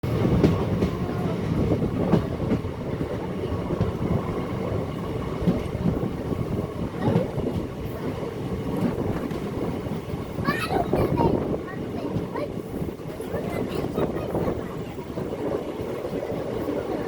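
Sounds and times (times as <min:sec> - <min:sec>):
train rumbling on track: 0:00.0 - 0:17.0
train wheels knocking: 0:00.1 - 0:17.0.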